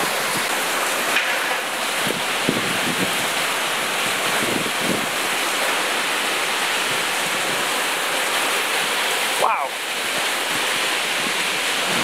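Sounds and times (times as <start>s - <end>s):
heavy rain pouring: 0.0s - 12.0s
strong wind: 1.5s - 12.0s.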